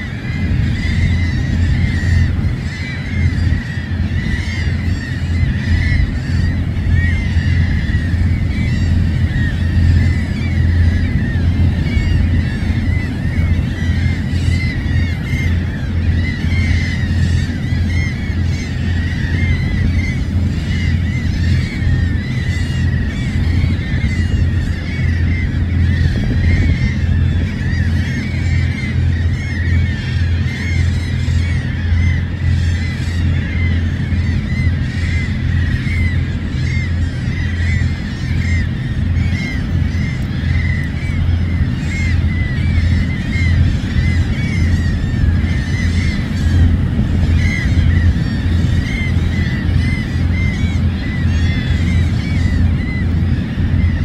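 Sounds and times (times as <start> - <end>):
seabirds calling: 0.0 - 54.0
steady low rumble: 0.0 - 54.0.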